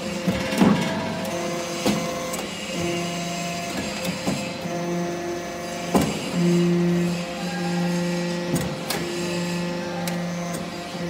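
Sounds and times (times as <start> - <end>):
hydraulic pump hum: 0.0 - 11.0.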